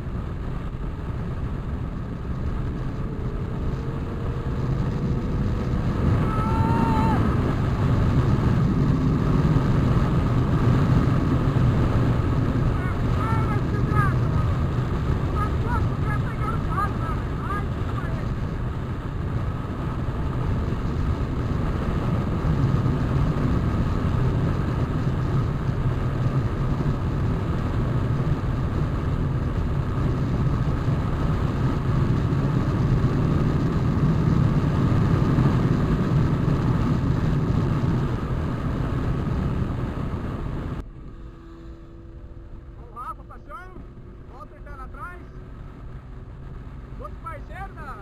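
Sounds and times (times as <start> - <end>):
motorcycle engine running: 0.0 - 48.0
road and wind noise: 0.0 - 48.0.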